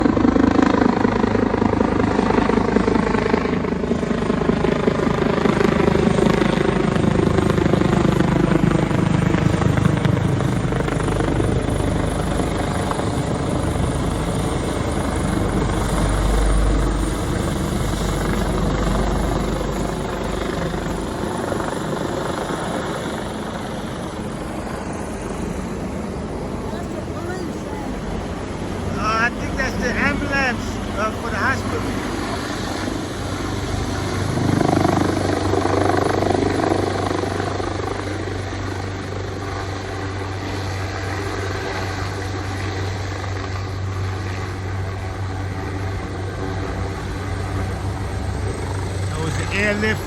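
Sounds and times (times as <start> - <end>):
helicopter flying overhead: 0.0 - 50.0.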